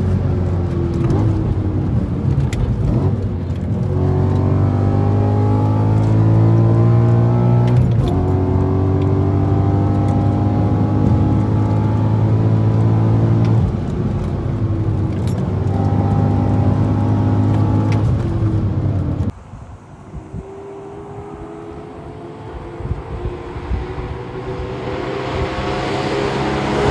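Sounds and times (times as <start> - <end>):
car engine accelerating: 0.0 - 19.4, 20.4 - 26.9.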